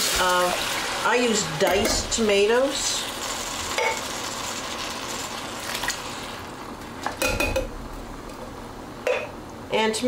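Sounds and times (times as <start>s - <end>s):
pot sizzling: 0.0s - 9.4s.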